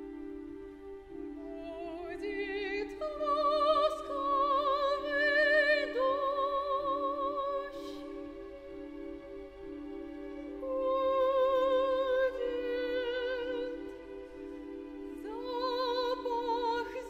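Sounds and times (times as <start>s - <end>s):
orchestral accompaniment: 0.0s - 17.0s
soprano singing: 0.0s - 17.0s.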